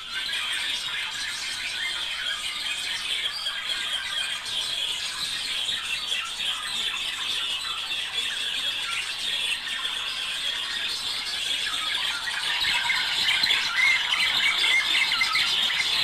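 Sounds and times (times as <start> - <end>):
budgerigars chattering and warbling: 0.2 - 16.0.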